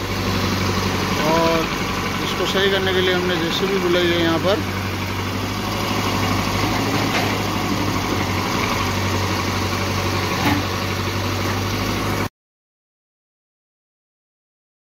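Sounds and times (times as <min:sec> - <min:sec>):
diesel engine running: 0:00.0 - 0:12.3.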